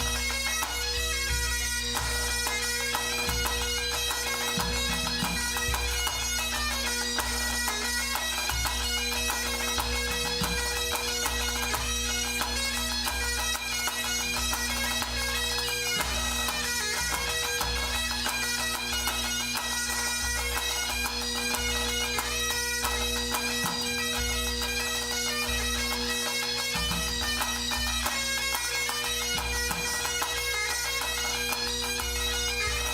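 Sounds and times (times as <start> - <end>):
bagpipes playing: 0.0 - 32.9.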